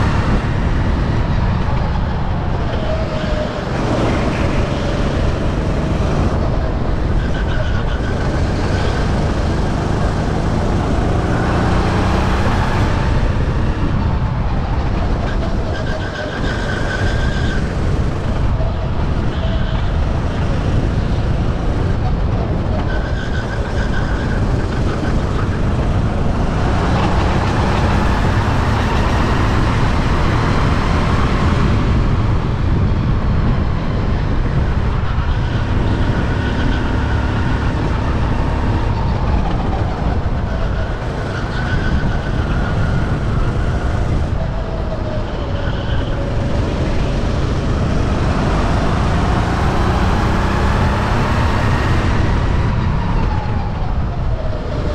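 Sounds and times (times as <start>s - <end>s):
racing kart engine revving: 0.0s - 54.9s.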